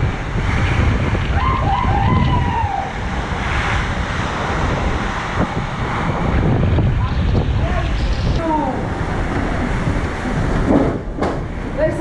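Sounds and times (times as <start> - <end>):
strong wind and rain: 0.0 - 12.0
wind buffeting microphone: 0.0 - 12.0.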